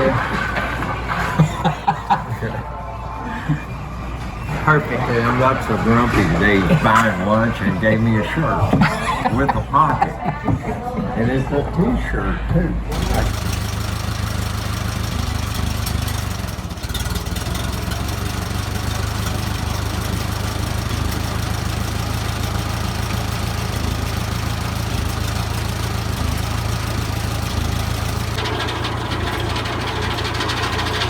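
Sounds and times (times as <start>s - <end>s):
circular saw blade spinning: 0.0s - 9.2s, 12.9s - 31.0s
tractor engine running: 0.0s - 31.0s.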